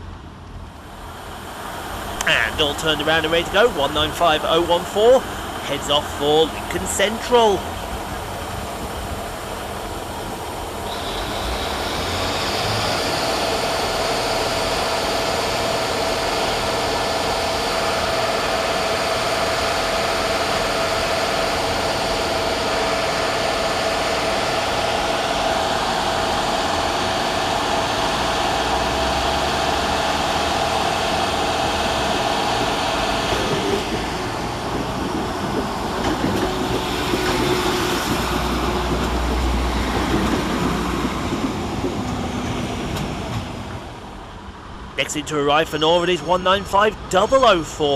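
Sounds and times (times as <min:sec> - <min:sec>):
diesel train engine pulling away: 0:00.0 - 0:46.0
steady whine: 0:00.0 - 0:47.9.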